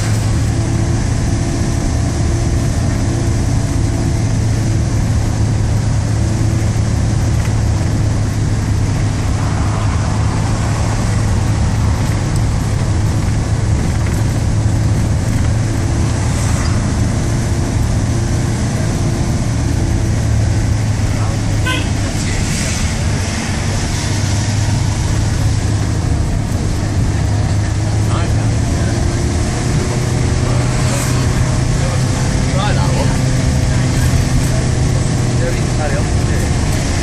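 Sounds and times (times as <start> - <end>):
passing traffic rushing: 0.0 - 37.0
road noise inside car: 0.0 - 37.0
vehicle engine drone: 0.0 - 37.0.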